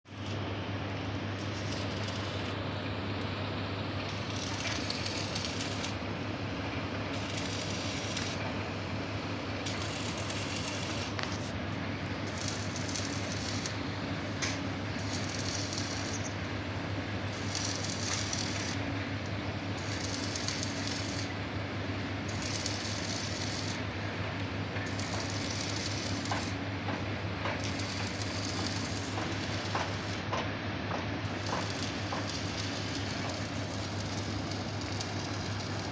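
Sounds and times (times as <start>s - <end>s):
heavy machinery humming: 0.1s - 35.9s.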